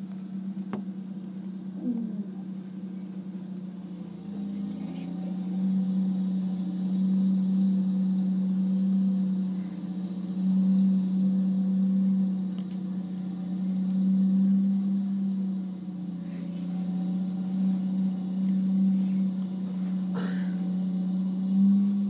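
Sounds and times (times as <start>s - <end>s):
wheel loader engine droning: 0.0s - 22.0s.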